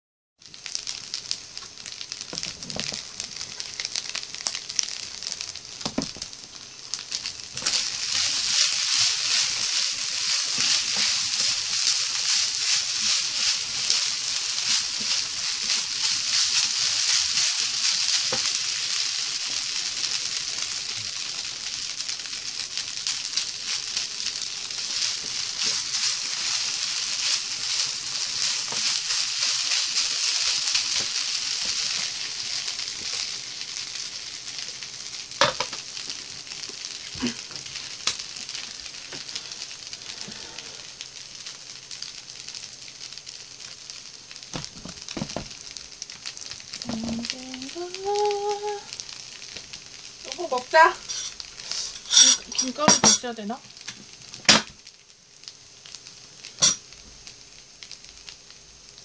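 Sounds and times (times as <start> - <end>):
fried rice sizzling in a pan: 0.4 - 59.0.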